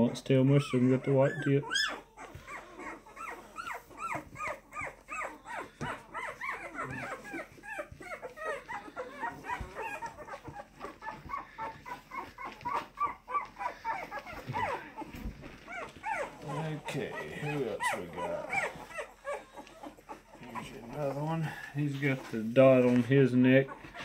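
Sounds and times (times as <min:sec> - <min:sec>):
puppies whimpering and squeaking: 0:00.0 - 0:24.0.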